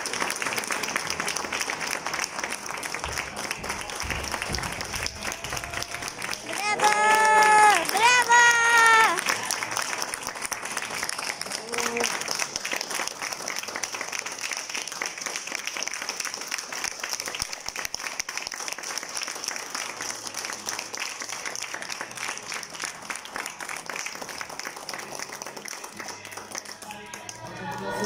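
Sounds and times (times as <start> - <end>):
audience applauding: 0.0 - 28.0.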